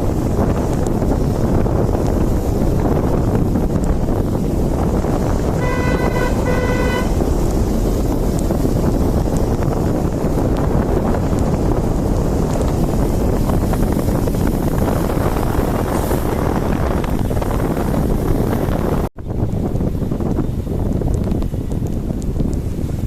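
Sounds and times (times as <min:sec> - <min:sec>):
vehicle rumbling on road: 0:00.0 - 0:23.0
wind buffeting microphone: 0:00.0 - 0:23.0.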